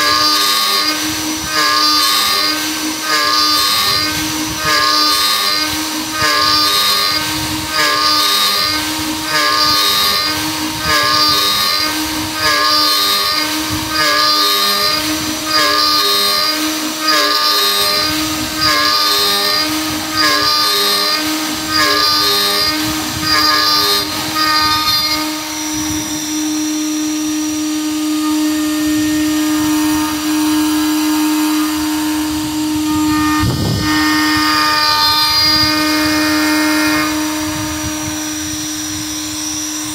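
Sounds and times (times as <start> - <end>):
cnc router spindle whine: 0.0 - 39.9
endmill cutting metal bursts: 0.0 - 39.9.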